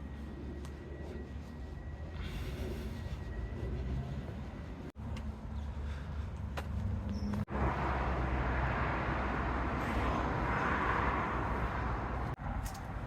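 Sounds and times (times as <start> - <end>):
vehicle road rumble: 0.0 - 13.0.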